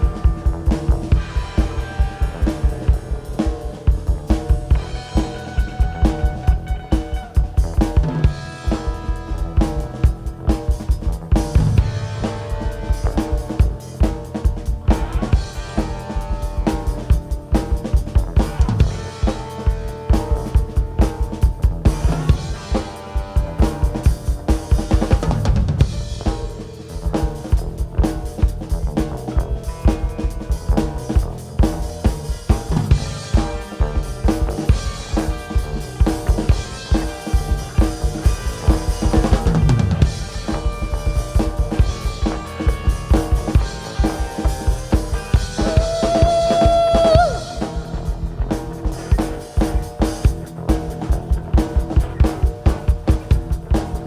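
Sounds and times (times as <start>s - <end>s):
drum kit steady beat: 0.0s - 54.0s
rock band playing: 0.0s - 54.0s
sustained bass: 0.0s - 54.0s.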